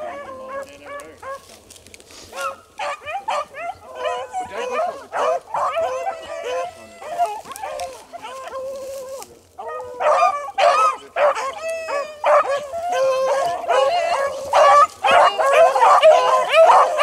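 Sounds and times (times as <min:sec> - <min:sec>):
dogs barking and howling: 0:00.0 - 0:01.7, 0:02.3 - 0:17.0.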